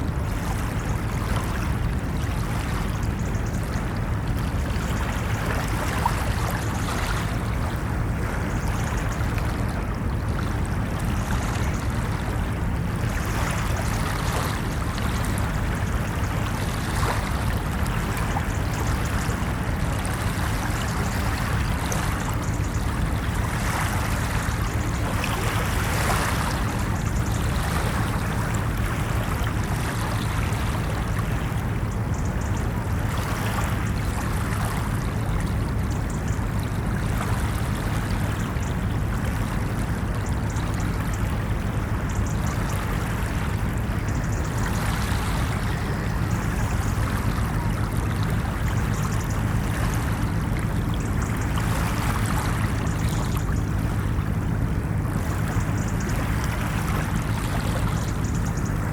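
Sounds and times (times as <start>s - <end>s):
ocean waves washing onto a beach: 0.0s - 58.9s.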